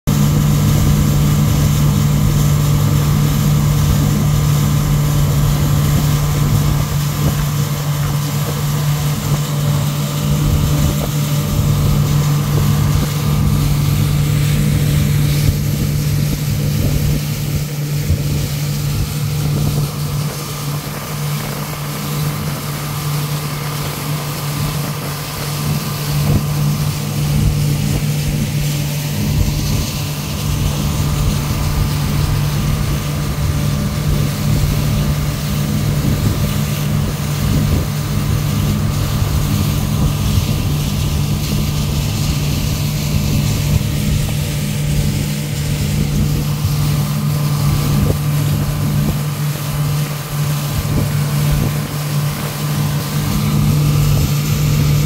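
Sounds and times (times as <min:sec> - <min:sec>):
water rushing along hull: 0:00.0 - 0:55.0
boat motor droning: 0:00.1 - 0:55.0
wind on microphone: 0:00.1 - 0:55.0.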